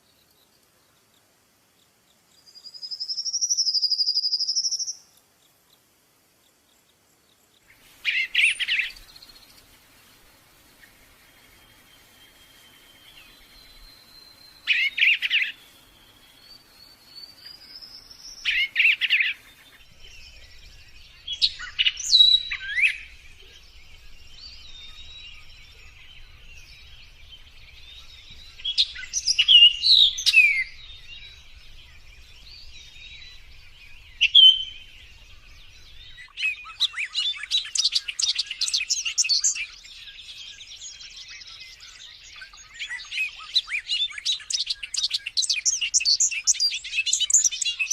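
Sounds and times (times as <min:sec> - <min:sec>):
birds whistling and chirping: 0:02.4 - 0:05.1, 0:08.0 - 0:09.8, 0:10.6 - 0:47.9.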